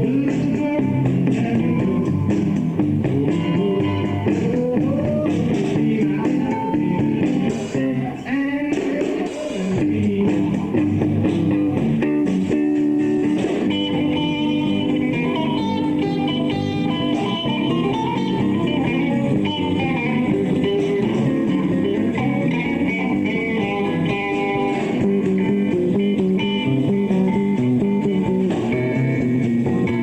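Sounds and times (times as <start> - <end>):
blues-rock band playing: 0.0 - 30.0.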